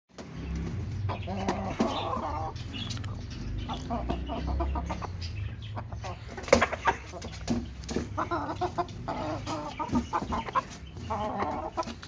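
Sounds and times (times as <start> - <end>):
chickens clucking: 0.1 - 12.0.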